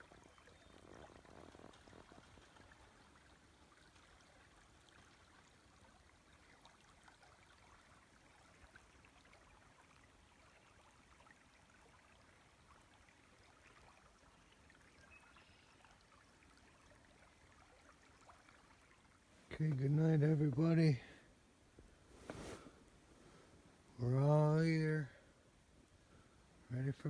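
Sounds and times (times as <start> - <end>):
faint river flowing: 0.0 - 27.0.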